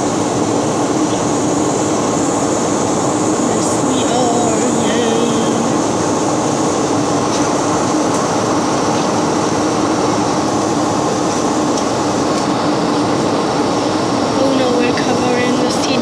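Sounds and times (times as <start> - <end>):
airliner engines: 0.0 - 16.0
low steady hum: 0.0 - 16.0.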